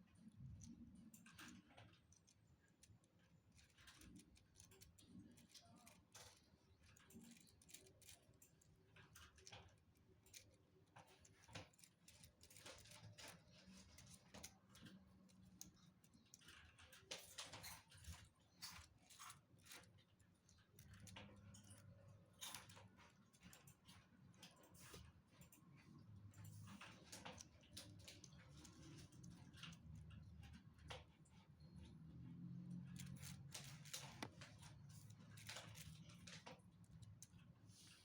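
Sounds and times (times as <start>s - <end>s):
plastic parts clicking and rattling: 0.2s - 31.4s, 32.7s - 38.0s.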